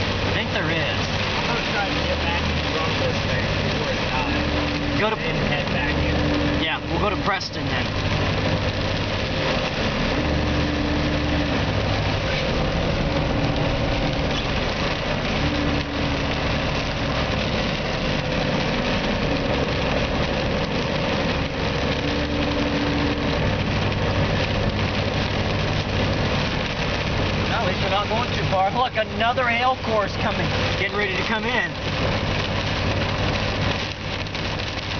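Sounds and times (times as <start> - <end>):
car engine running: 0.0 - 34.9
rain on windshield: 0.0 - 34.9
tyres hissing on wet road: 0.0 - 34.9.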